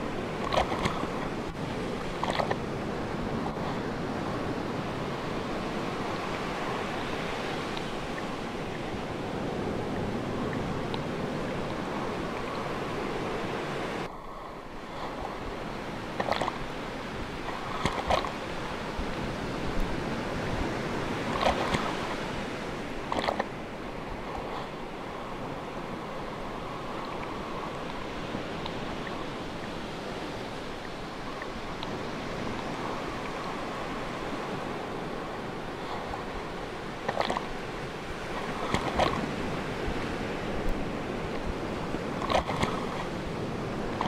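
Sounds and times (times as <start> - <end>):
ocean waves rushing: 0.0 - 44.0.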